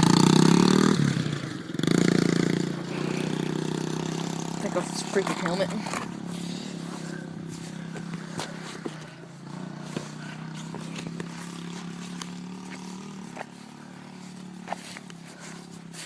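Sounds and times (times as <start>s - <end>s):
dirt bike engine idling: 0.0s - 16.0s.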